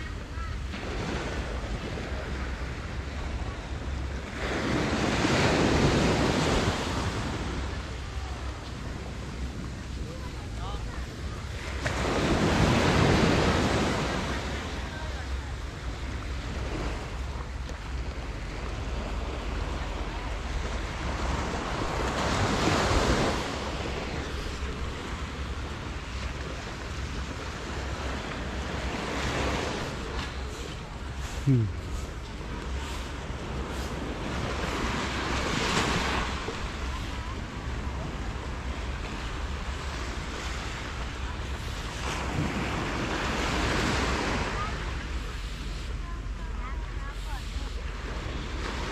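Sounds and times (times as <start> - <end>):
waves washing onto beach: 0.0 - 48.9.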